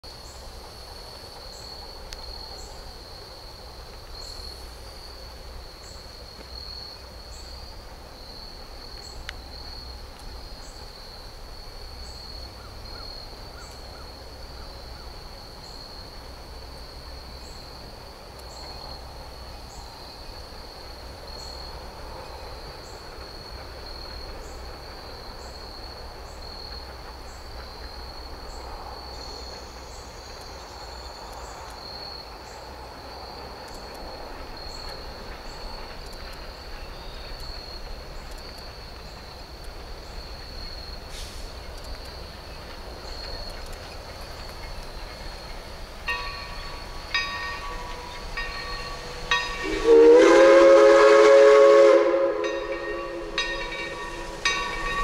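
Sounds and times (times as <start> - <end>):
insects trilling: 0.1 - 55.0.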